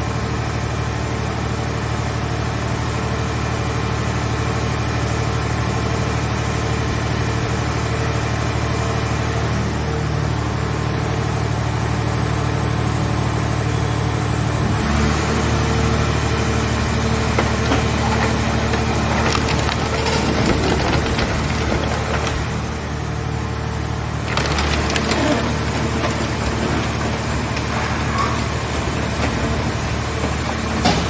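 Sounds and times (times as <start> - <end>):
engine hum: 0.0 - 31.0.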